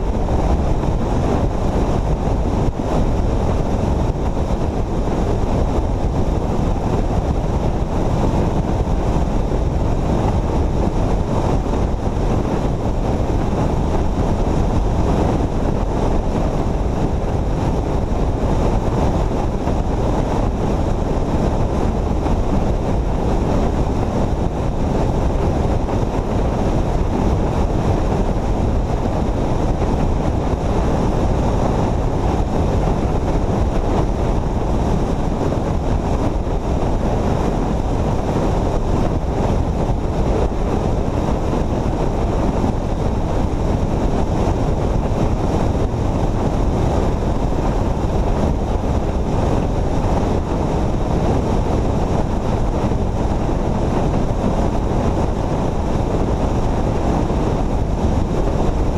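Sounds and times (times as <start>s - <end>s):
vehicle road noise: 0.0s - 58.9s
wind on microphone: 0.0s - 58.9s.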